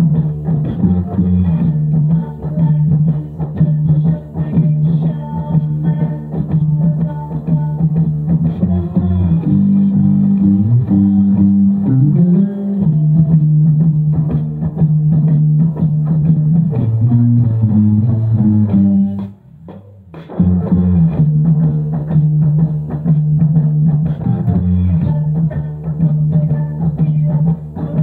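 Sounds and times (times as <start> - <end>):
electric bass guitar playing: 0.0 - 28.0.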